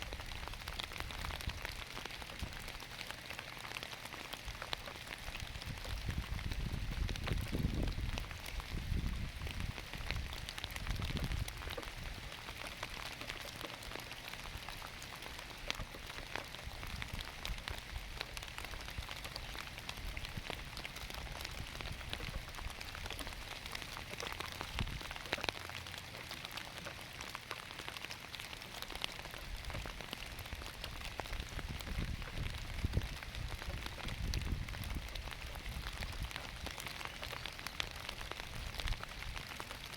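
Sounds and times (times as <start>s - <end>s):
rain falling on plants: 0.0s - 39.9s.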